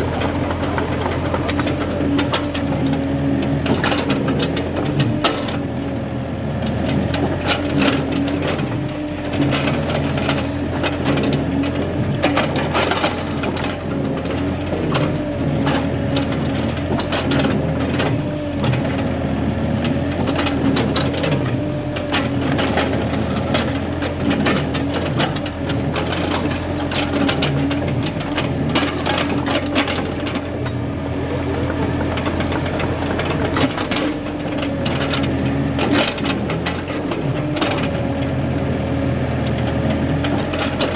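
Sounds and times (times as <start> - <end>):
excavator engine humming: 0.0 - 40.9
knocks and scrapes on soil: 0.0 - 40.9.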